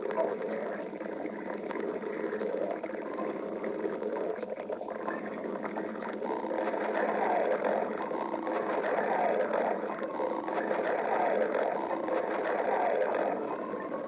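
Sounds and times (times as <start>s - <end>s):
stomach growling: 0.0s - 14.0s.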